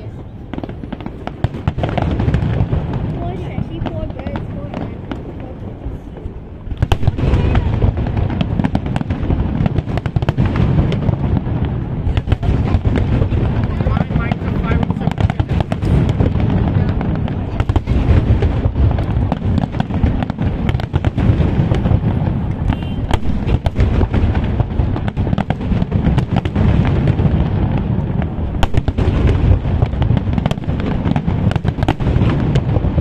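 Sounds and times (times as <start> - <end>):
fireworks booming: 0.0 - 33.0
fireworks crackling: 0.0 - 33.0.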